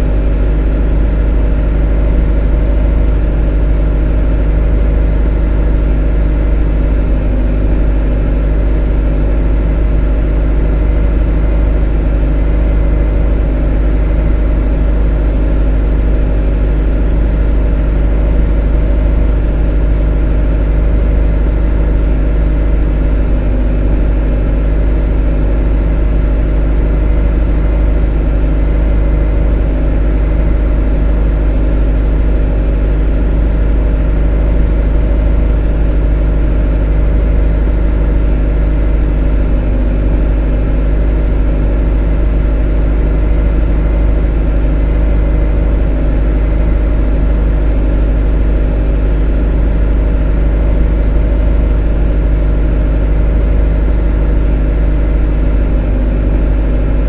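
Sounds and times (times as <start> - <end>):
motor droning steadily: 0.0 - 57.0.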